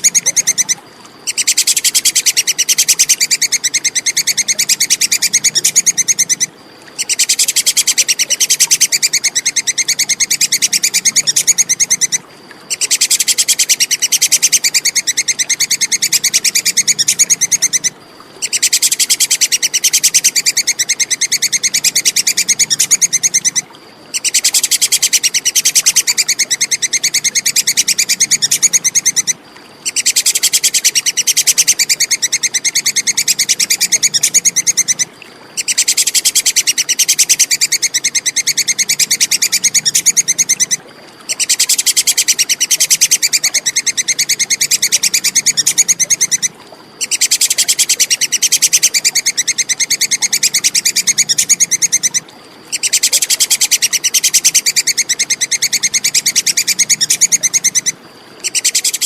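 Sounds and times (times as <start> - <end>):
squirrel chattering call: 0.0 - 59.0.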